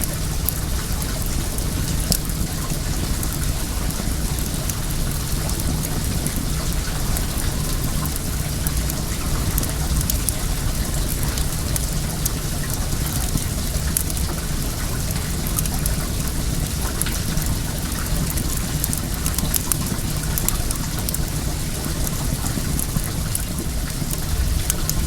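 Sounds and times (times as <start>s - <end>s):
water flowing: 0.0s - 25.0s
wood fire crackling: 0.0s - 25.0s.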